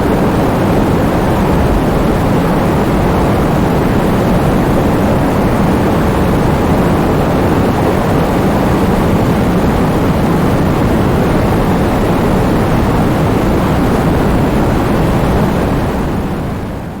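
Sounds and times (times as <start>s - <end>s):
heavy rain falling: 0.0s - 16.8s
wind blowing: 0.0s - 17.0s.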